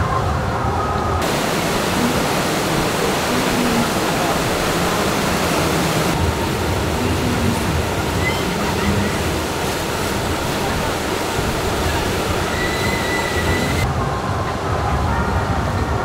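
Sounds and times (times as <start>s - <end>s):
water rushing through channel: 0.0s - 16.0s.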